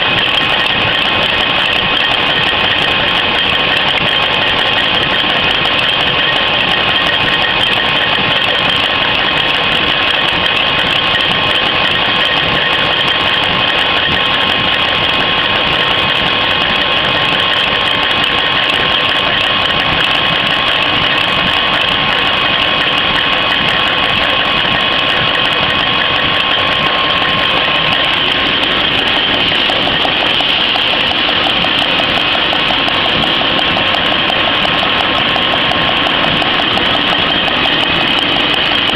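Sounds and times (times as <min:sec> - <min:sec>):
machine mechanical drone: 0:00.0 - 0:38.9
vacuum pump whine: 0:00.0 - 0:38.9.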